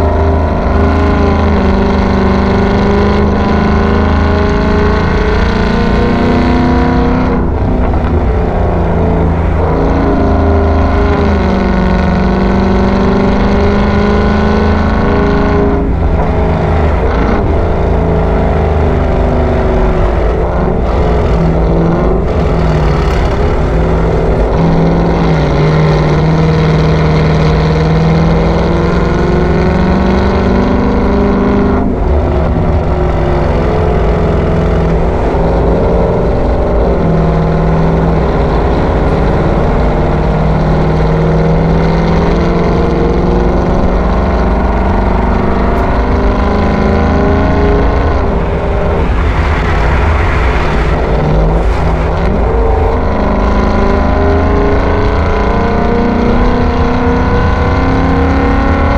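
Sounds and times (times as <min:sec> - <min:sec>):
car engine revving while driving: 0:00.0 - 0:58.9.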